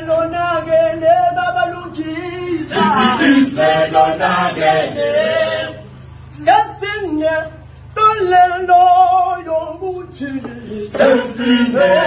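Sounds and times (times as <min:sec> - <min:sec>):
male choir singing a cappella: 0:00.0 - 0:06.5, 0:08.6 - 0:12.0.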